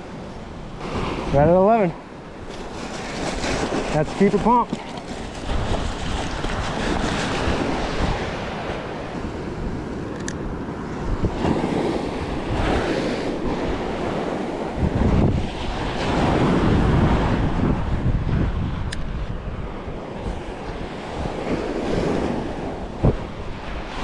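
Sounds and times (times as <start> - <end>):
surf washing on sandy beach: 0.0 - 24.0
wind buffeting microphone: 0.0 - 24.0.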